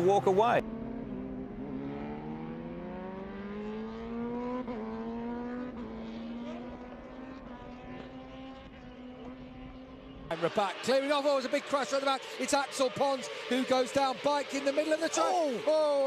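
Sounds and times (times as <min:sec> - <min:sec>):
racing motorcycle engines: 0:00.0 - 0:16.0.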